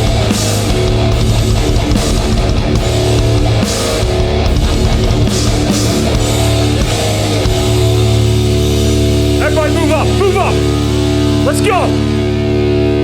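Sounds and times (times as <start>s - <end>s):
drums and crash cymbals: 0.0s - 12.4s
bass guitar low notes: 0.0s - 13.0s
distorted electric guitars: 0.0s - 13.0s.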